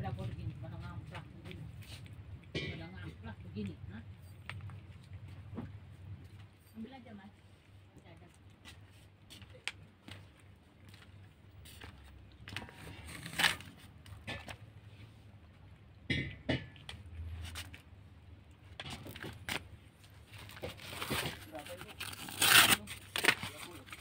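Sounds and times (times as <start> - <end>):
kittens eating from plastic pouch: 0.1 - 16.0, 16.9 - 24.0.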